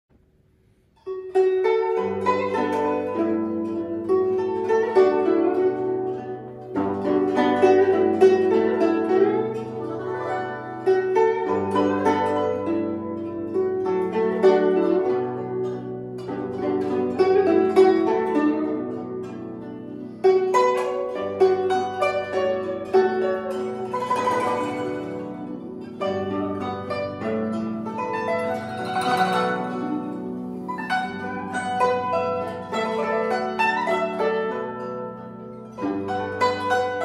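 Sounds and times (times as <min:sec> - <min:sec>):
zithers playing a plucked duet: 0:00.4 - 0:37.0.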